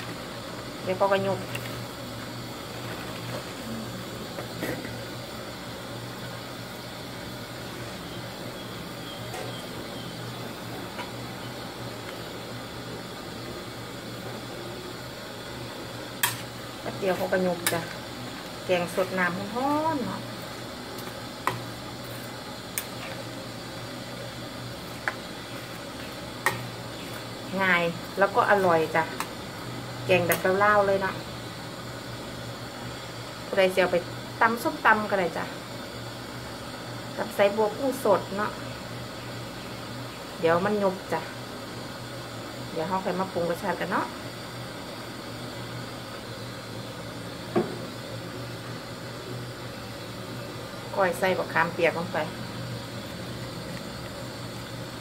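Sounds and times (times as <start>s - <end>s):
pot heating hiss and hum: 0.0s - 55.0s.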